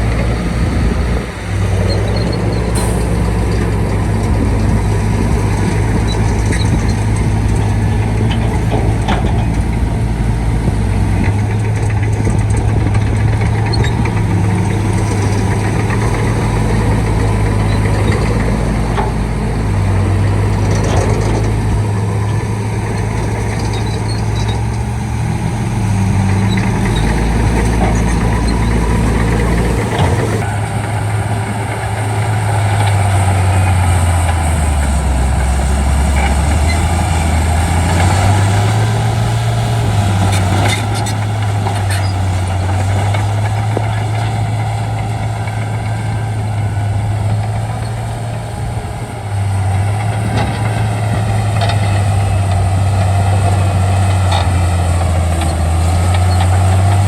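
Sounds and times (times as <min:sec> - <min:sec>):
bulldozer diesel engine working: 0:00.0 - 0:57.0.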